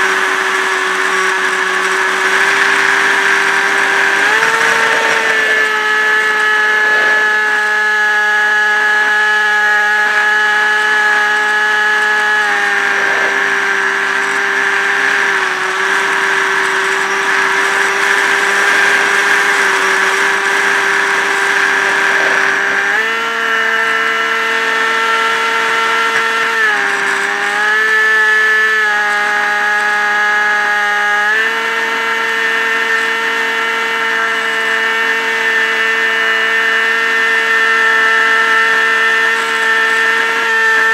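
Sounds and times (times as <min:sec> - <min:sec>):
model plane motor whining: 0:00.0 - 0:40.9.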